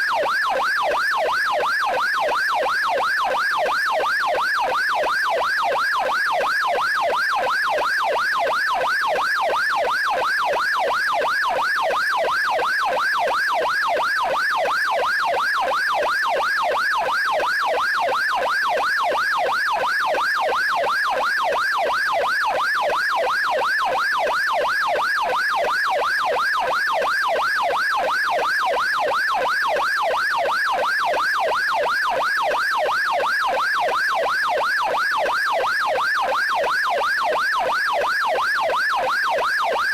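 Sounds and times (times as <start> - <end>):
electronic police siren yelping: 0.0 - 39.9.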